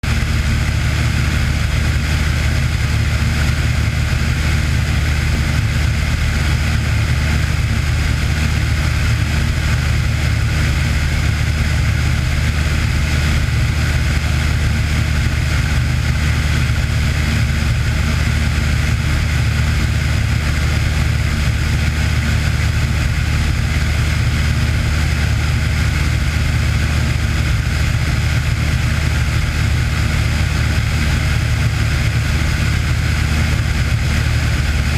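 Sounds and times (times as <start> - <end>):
aircraft engine and propeller drone: 0.0 - 34.9.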